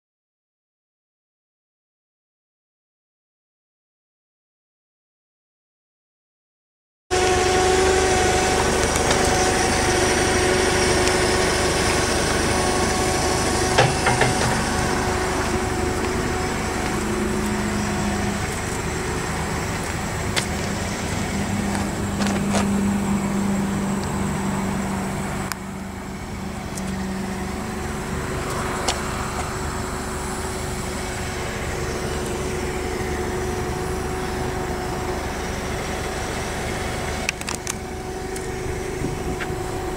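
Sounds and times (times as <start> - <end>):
engine humming: 7.1 - 39.9.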